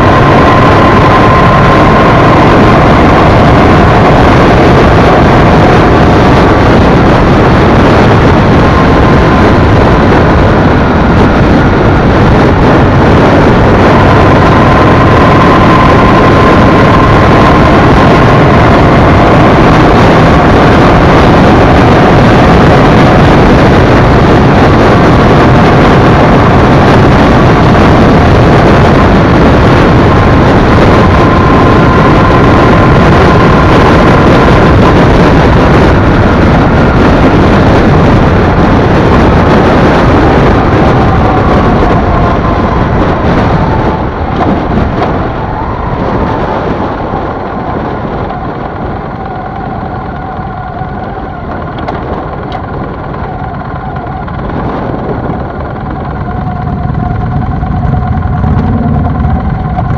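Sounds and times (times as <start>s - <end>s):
faint high whine: 0.0s - 59.9s
motorcycle riding with wind noise: 0.0s - 59.9s.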